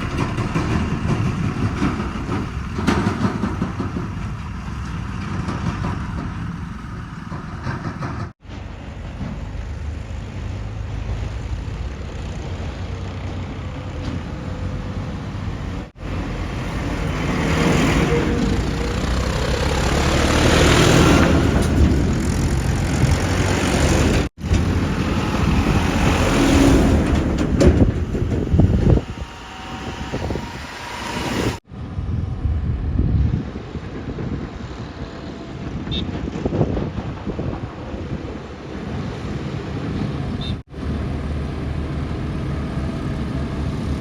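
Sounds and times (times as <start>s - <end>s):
diesel engines of heavy machinery: 0.0s - 44.0s.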